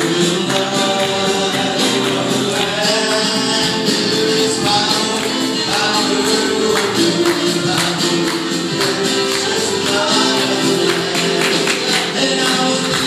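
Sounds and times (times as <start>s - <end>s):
drum kit beat: 0.0s - 13.0s
voices singing: 0.0s - 13.0s.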